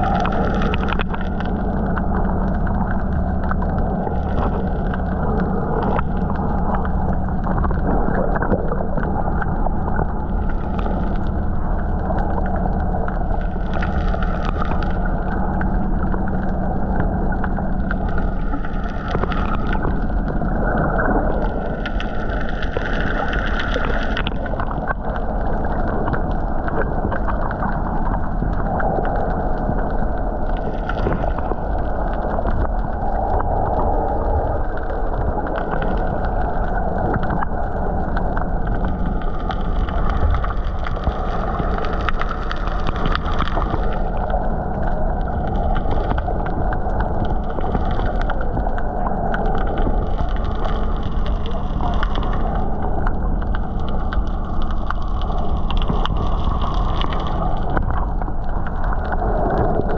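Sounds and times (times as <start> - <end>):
faint low hum: 0.0 - 59.9
fine crackling clicks: 0.0 - 59.9
muffled rush of sea water: 0.0 - 59.9.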